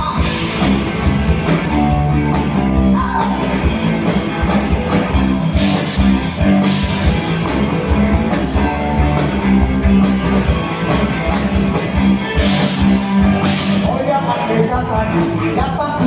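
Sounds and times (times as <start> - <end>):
rock guitar over steady beat: 0.0 - 16.0.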